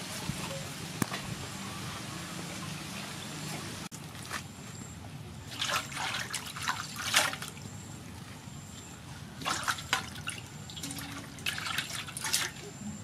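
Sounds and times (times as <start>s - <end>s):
water splashing and trickling: 0.0s - 4.4s, 5.3s - 13.0s.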